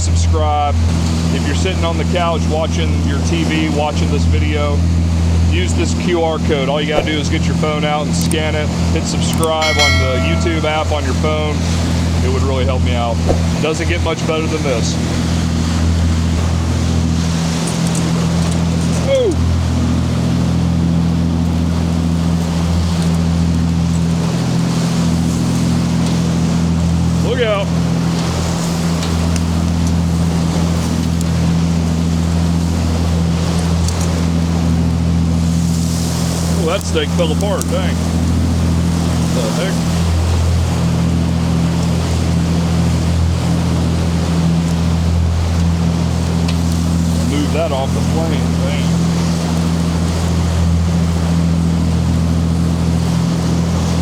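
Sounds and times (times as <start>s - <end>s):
boat diesel engine droning: 0.0s - 54.0s
water washing: 0.7s - 54.0s.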